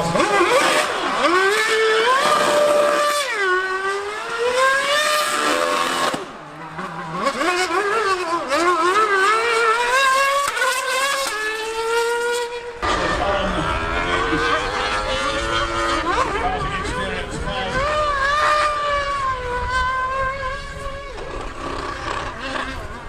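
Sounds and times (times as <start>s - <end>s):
race car engine at high revs: 0.0s - 23.0s
superbike engine at high revs: 0.0s - 23.0s.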